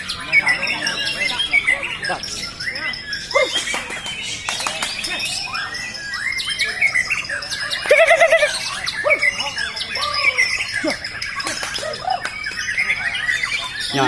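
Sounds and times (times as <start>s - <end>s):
songbirds chirping and trilling: 0.0s - 14.0s.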